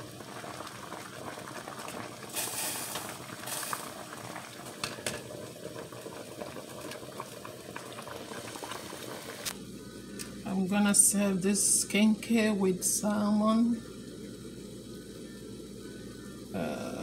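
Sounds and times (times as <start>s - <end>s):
water boiling: 0.0s - 17.0s.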